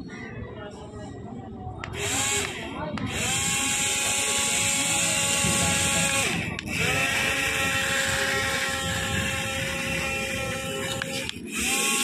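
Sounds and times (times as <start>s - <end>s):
small electric motor whining: 1.9s - 12.0s.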